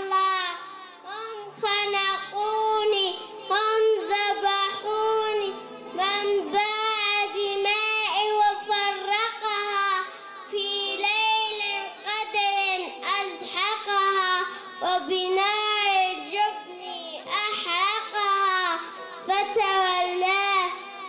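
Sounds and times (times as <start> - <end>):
girl singing into microphone: 0.0 - 21.0.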